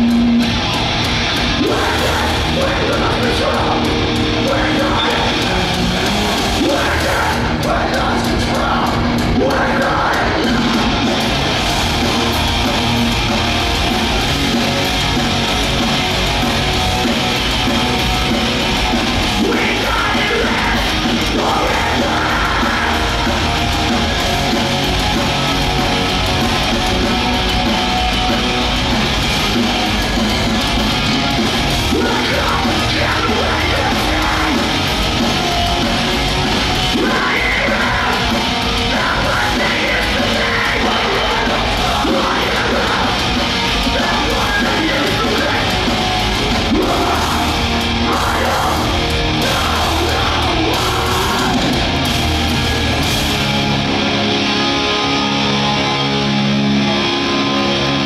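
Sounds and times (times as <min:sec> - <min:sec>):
shouted vocals: 0:00.0 - 0:14.2, 0:18.2 - 0:28.0, 0:30.9 - 0:58.0
distorted electric guitars: 0:00.0 - 0:58.0
drums: 0:00.0 - 0:58.0.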